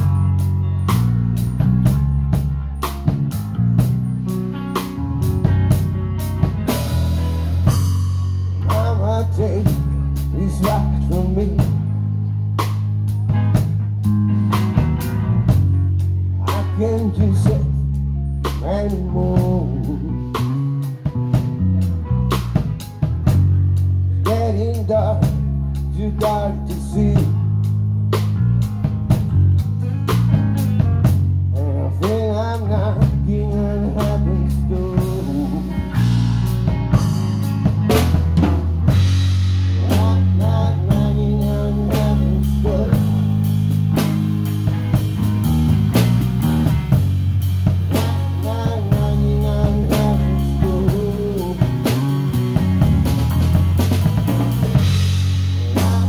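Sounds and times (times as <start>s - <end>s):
bass line: 0.0s - 56.0s
drum kit beat: 0.0s - 56.0s
lead guitar melody with bent notes: 0.0s - 56.0s.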